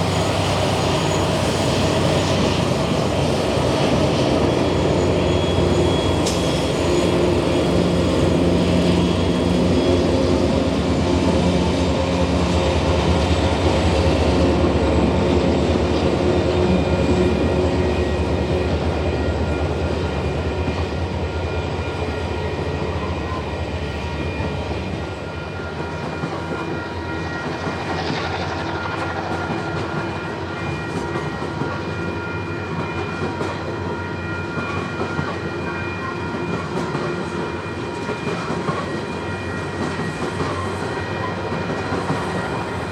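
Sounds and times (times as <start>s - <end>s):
diesel locomotive engines droning: 0.0s - 42.9s.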